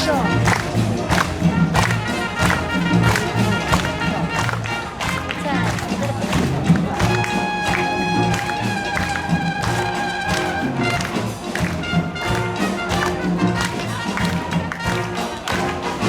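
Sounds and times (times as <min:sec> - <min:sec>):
steady percussion beat: 0:00.0 - 0:16.0
wind band held notes: 0:00.0 - 0:16.0.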